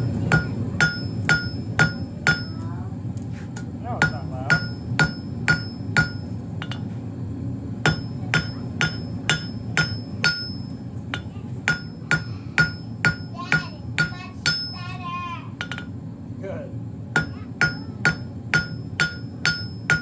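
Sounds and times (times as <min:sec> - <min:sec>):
hammer striking steel on anvil: 0:00.0 - 0:02.6, 0:03.6 - 0:06.9, 0:07.8 - 0:14.9, 0:15.6 - 0:15.9, 0:17.2 - 0:20.0
steady low hum: 0:00.0 - 0:20.0.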